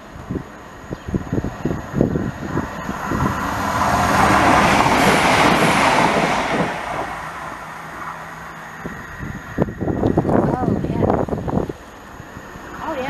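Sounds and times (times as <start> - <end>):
low train engine note: 0.0 - 13.0
train rushing past: 0.0 - 13.0.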